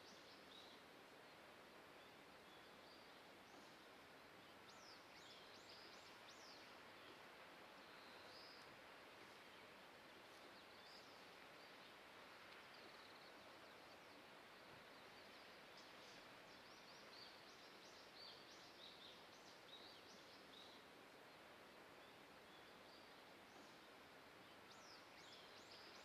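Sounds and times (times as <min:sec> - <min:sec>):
distant waterfall hiss: 0:00.0 - 0:26.0.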